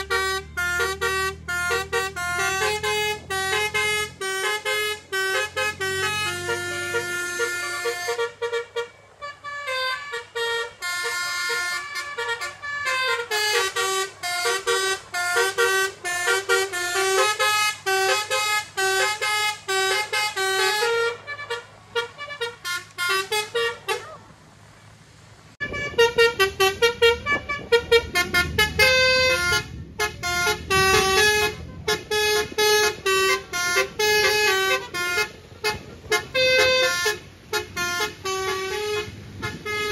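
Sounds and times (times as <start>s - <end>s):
musical bus horn tune: 0.0s - 24.2s, 25.6s - 39.9s
low traffic rumble: 0.0s - 39.9s.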